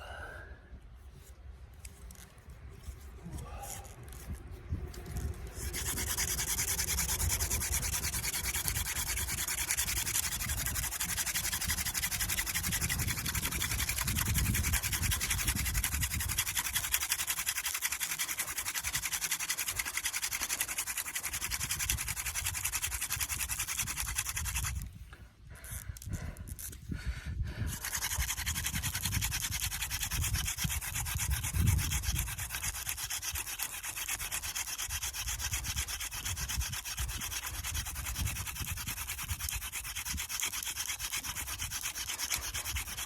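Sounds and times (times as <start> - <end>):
hand drill friction scraping: 1.2 - 43.0.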